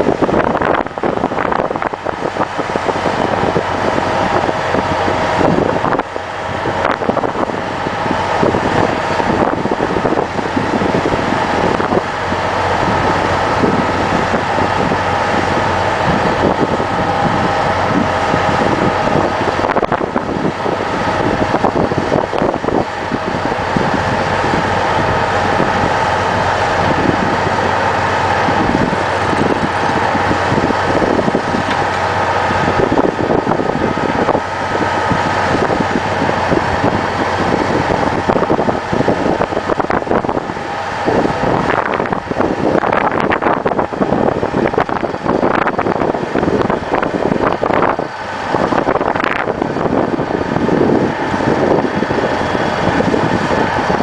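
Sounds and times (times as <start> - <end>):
vibratory hammer droning: 0.0 - 54.0.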